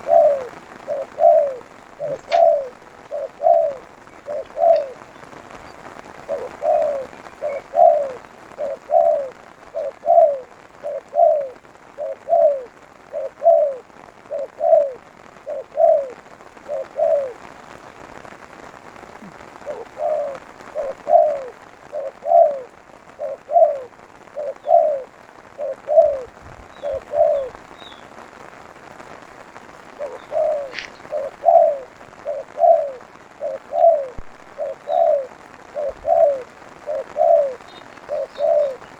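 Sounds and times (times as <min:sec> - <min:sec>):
dove cooing: 0:00.0 - 0:18.1, 0:19.0 - 0:28.2, 0:29.8 - 0:38.9.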